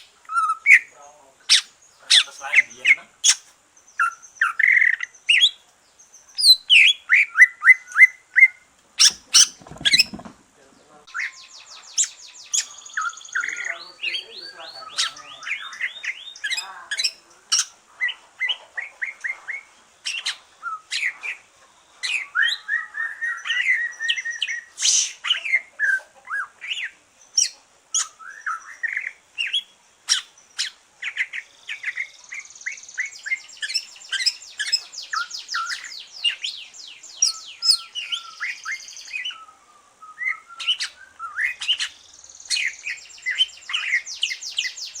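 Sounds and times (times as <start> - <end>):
bird singing trills and chirps: 0.0 - 45.0.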